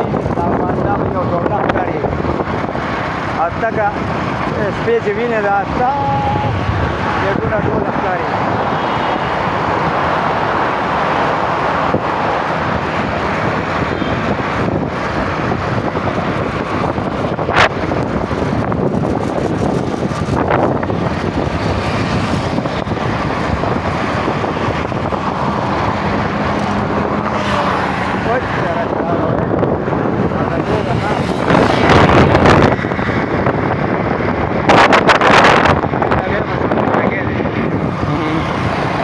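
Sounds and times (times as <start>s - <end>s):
wind buffeting microphone: 0.0s - 39.0s
wind rush and road noise: 0.0s - 39.0s
passing whoosh: 2.1s - 39.0s.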